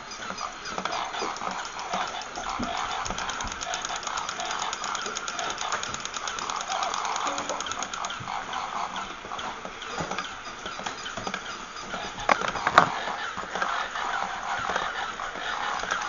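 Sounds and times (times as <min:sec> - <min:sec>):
toy motor and gears clattering: 0:00.0 - 0:16.0
wavering squeaks: 0:00.0 - 0:16.0.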